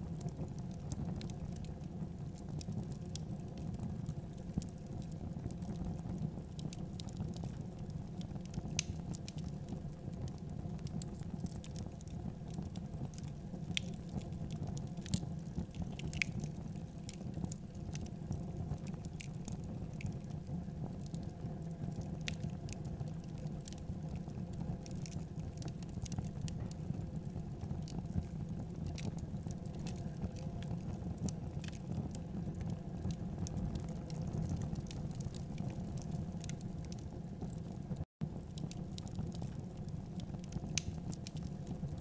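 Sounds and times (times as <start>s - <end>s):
low rumble of fire: 0.0s - 42.0s.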